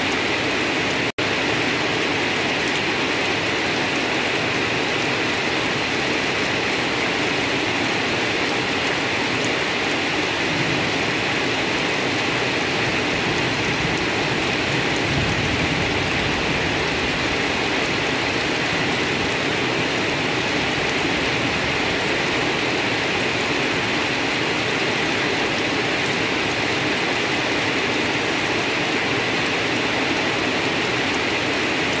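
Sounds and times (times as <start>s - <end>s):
rain falling on grass: 0.0s - 32.0s.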